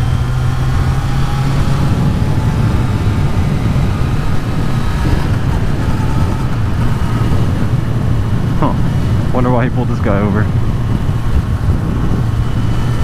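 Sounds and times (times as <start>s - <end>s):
motorcycle engine running: 0.0s - 13.0s
wind rushing past microphone: 0.0s - 13.0s.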